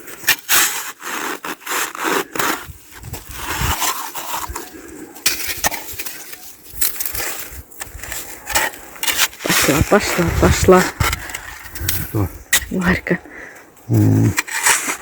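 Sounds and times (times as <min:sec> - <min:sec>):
snow crunching: 0:00.0 - 0:15.0.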